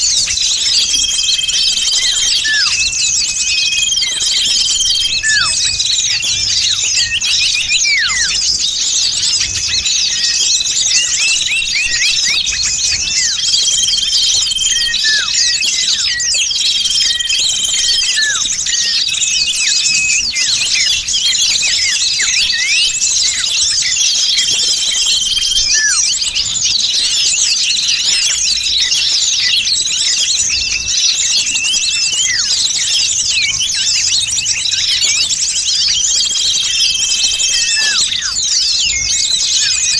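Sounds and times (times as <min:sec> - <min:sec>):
bird whistles: 0:00.0 - 0:39.9
songbirds chirping and twittering: 0:00.0 - 0:39.9.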